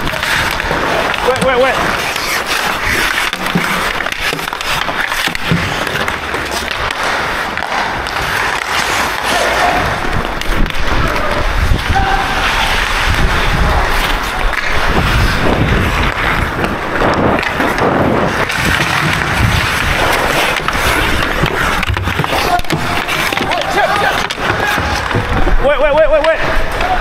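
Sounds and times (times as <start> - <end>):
skate blades scraping ice: 0.0 - 27.0
sticks hitting puck: 0.0 - 27.0.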